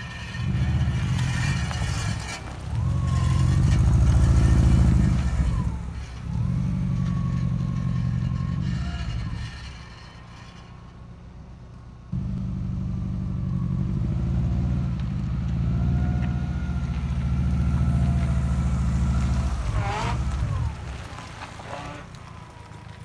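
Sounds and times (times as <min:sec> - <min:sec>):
van engine low pulsing drone: 0:00.0 - 0:23.0.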